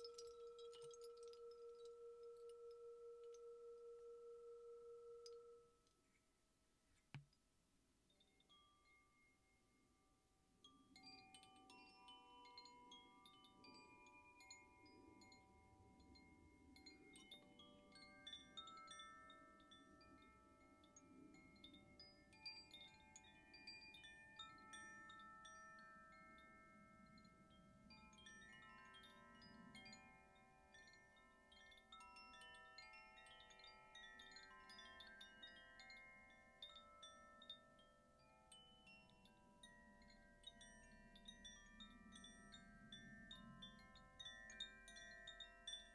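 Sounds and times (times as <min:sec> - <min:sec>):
wind chimes tinkling: 0:00.0 - 0:06.1, 0:08.0 - 0:45.9.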